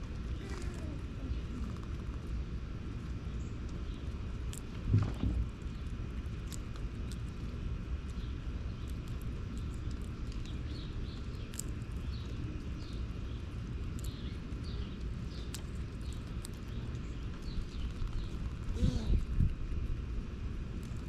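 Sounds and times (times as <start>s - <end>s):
low outdoor rumble: 0.0s - 21.0s
small birds chirping: 0.2s - 19.8s.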